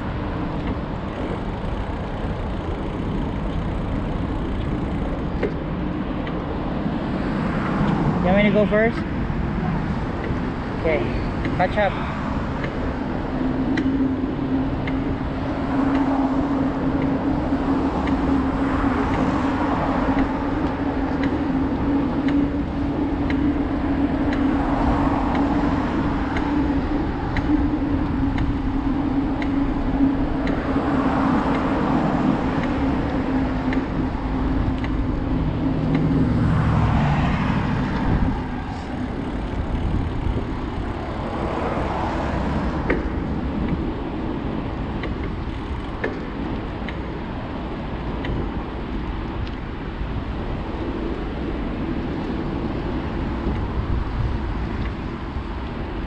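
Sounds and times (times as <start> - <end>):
cars passing: 0.0 - 56.0
steady low hum: 0.0 - 56.0
wind noise on microphone: 0.0 - 56.0.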